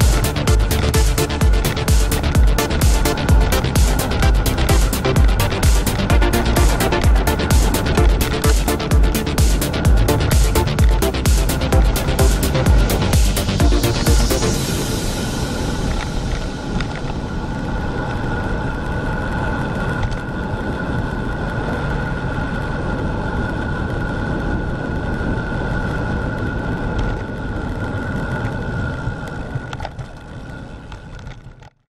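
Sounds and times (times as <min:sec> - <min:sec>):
wind rushing over microphone: 0:00.0 - 0:31.4
tyres rumbling on asphalt: 0:00.0 - 0:31.8.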